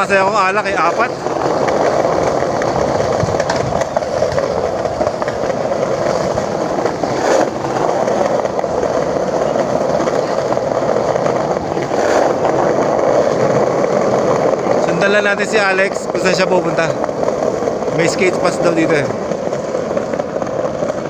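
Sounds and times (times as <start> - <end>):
skateboard wheels rolling on pavement: 0.0 - 21.0.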